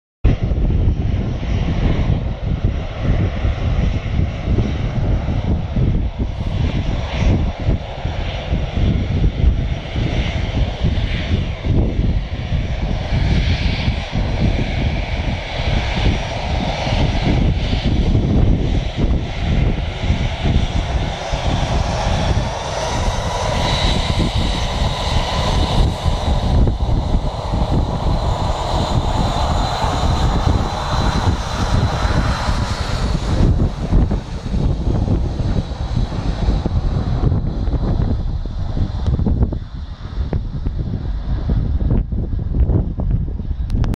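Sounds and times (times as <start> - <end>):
jet engine whine: 0.2 - 43.9
low pulsing rumble: 0.3 - 43.9.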